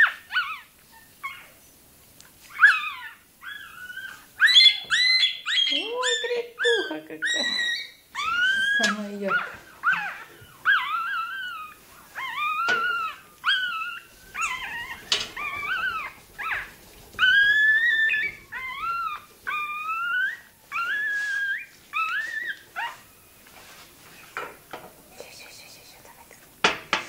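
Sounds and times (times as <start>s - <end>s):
puppy squealing: 0.0s - 1.5s, 2.5s - 23.2s.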